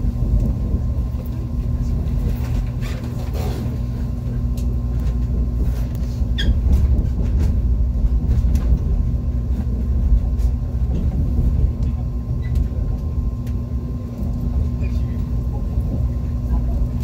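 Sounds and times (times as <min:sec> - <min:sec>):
steady hum: 0:00.0 - 0:17.0
train cabin low rumble: 0:00.0 - 0:17.0.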